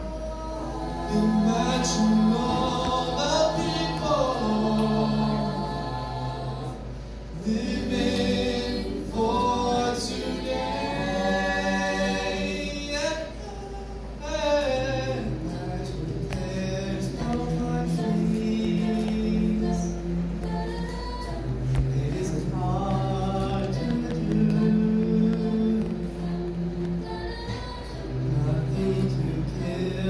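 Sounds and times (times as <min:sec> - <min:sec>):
a cappella group singing harmony: 0:00.0 - 0:30.0.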